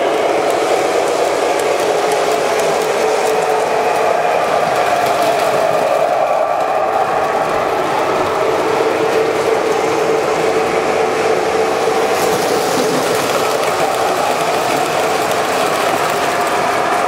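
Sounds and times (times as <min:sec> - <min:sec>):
model trains whirring on track: 0:00.0 - 0:17.0.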